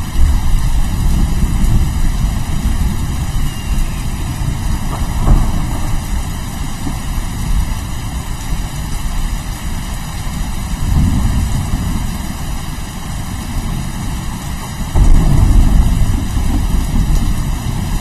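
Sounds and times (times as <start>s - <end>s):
rolling thunder: 0.0s - 9.2s, 10.6s - 18.0s
steady rain: 0.0s - 18.0s.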